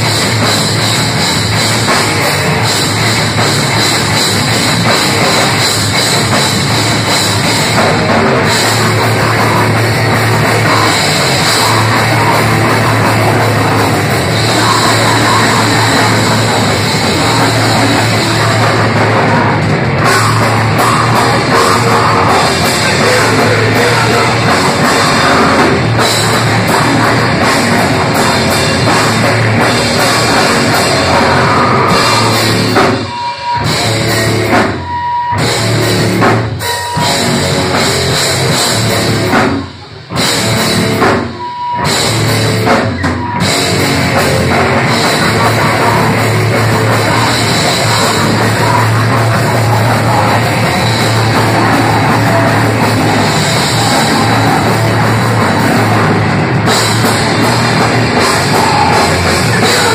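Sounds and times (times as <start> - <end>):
distorted electric guitar: 0.0 - 59.9
drum kit: 0.0 - 59.9.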